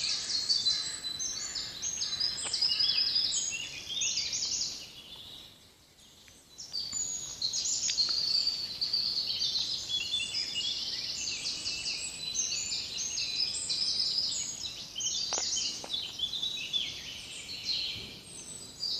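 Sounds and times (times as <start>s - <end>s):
songbirds singing: 0.0s - 18.9s.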